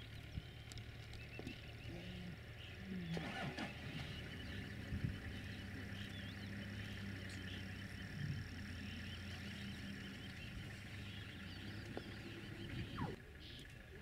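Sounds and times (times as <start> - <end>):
small chirping calls: 0.0 - 14.0
steady low hum: 0.0 - 14.0.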